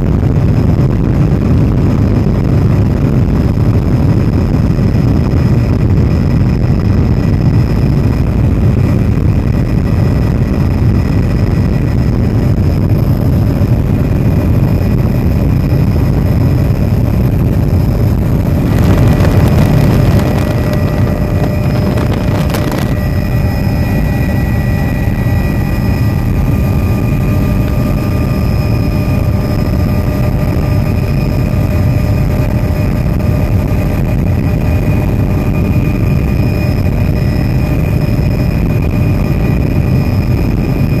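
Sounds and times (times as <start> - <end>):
helicopter engine and rotor rumble: 0.0 - 41.0
thin steady whine: 0.0 - 41.0.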